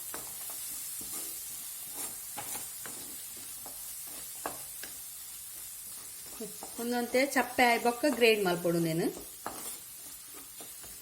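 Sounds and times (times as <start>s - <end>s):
stirring scrapes and taps: 0.0s - 8.4s, 9.1s - 11.0s
masala sizzling in oil: 0.0s - 11.0s.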